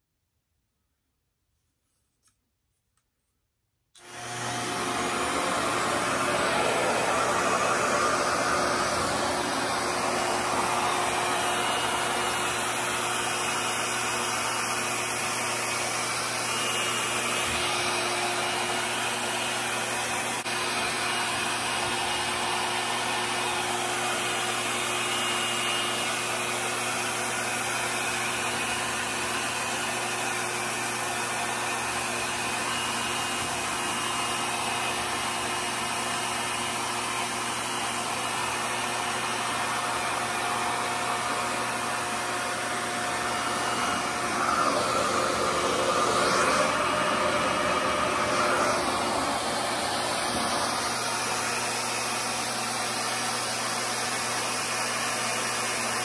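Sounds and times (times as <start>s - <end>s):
hair dryer running: 4.0s - 56.0s.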